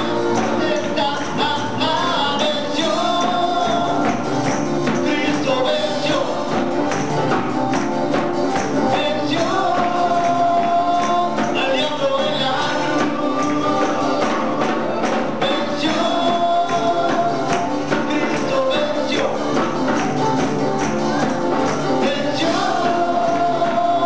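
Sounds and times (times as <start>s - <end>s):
tambourines jingling: 0.0s - 24.0s
worship band music with singing: 0.0s - 24.0s.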